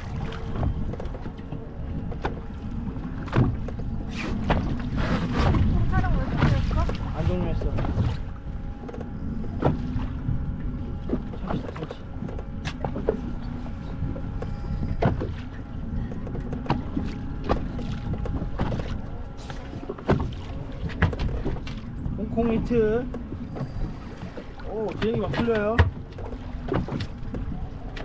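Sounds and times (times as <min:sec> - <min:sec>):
faint hum: 0:00.0 - 0:28.0
water slapping against boat hull: 0:00.0 - 0:28.0.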